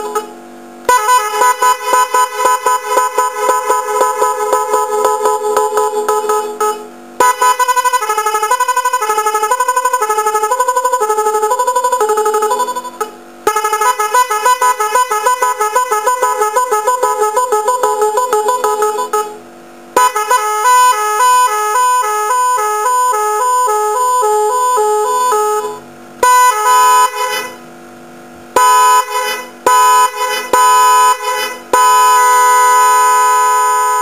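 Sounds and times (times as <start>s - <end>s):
melody horn playing tune patterns: 0.0s - 0.3s, 0.9s - 19.4s, 20.0s - 27.6s, 28.6s - 34.0s.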